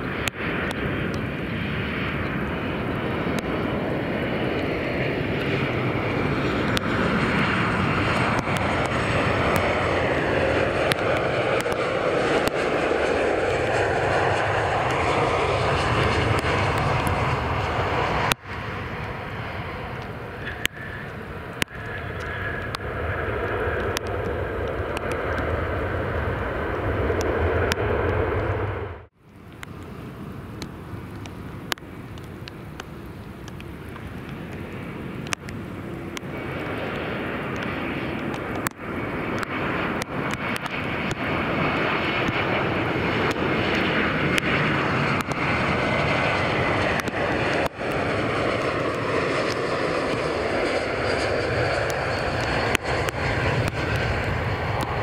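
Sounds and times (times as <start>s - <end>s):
jet airliner engine rumble: 0.0s - 55.0s.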